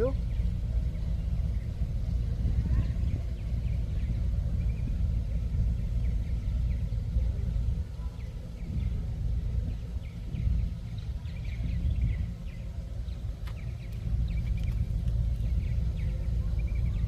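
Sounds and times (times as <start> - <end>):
birds chirping: 0.0 - 17.0
wind buffeting microphone: 0.0 - 17.0.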